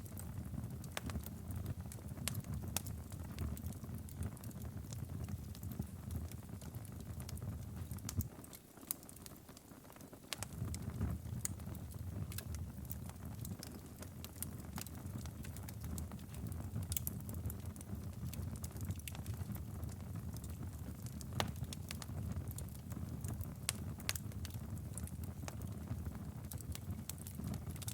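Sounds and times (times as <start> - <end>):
fire crackling and popping: 0.0 - 27.9
fire flames rumbling: 0.1 - 8.4, 10.4 - 27.9.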